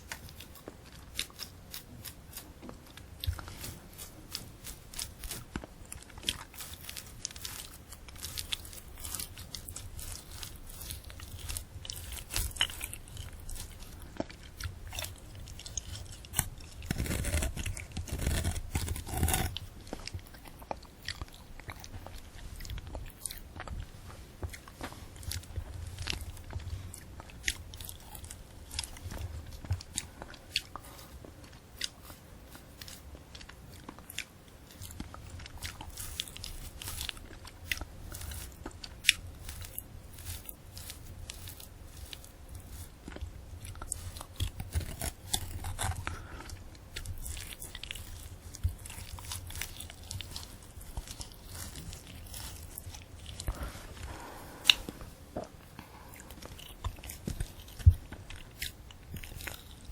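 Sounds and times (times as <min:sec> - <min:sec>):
candy apple crunching: 0:00.0 - 0:59.9.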